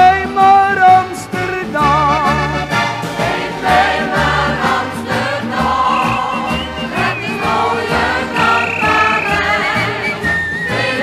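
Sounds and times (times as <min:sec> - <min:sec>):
choir-like voices: 0:02.1 - 0:11.0.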